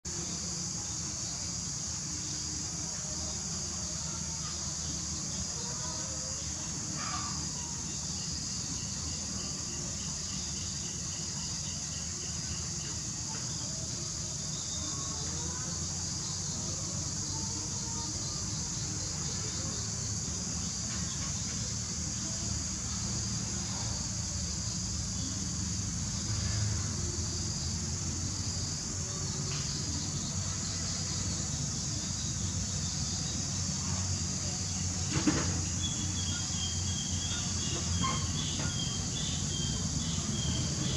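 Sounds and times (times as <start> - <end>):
high-pitched insect chorus: 0.1 - 40.9.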